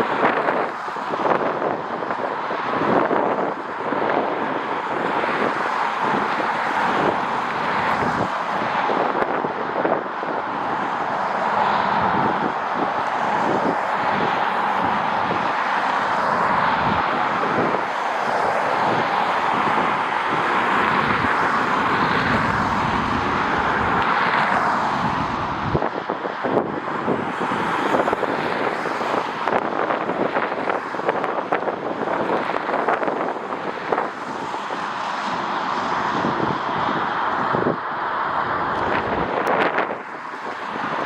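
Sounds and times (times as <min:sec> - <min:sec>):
jet engines roaring: 0:00.0 - 0:41.0
wind buffeting microphone: 0:00.0 - 0:41.0.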